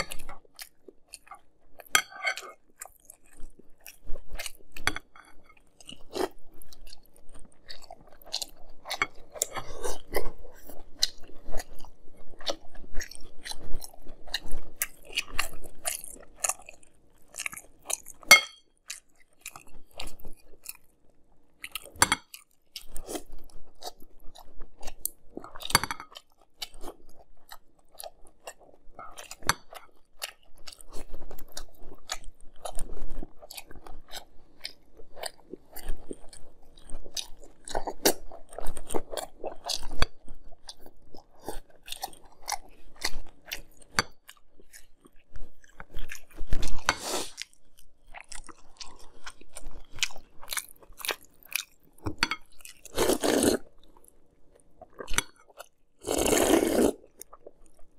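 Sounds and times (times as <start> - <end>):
chewing crunchy cereal: 0.0 - 57.9.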